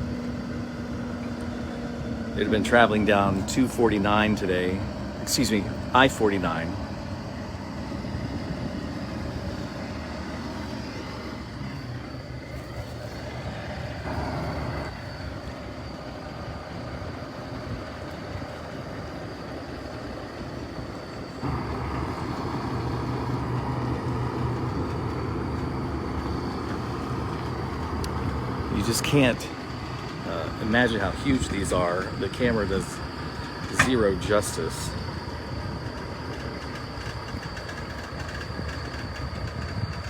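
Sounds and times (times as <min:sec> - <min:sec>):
heavy truck engine running: 0:00.0 - 0:40.0.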